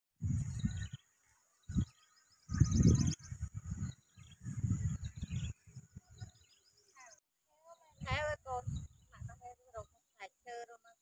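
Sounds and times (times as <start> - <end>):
wind gusts on microphone: 0.2 - 9.9
small birds chirping: 0.2 - 11.0.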